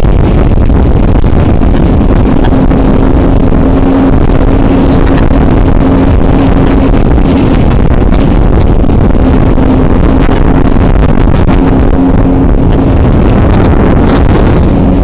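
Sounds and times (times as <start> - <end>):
motorcycle engine steady note: 0.0 - 15.0
wind rumble: 0.0 - 15.0.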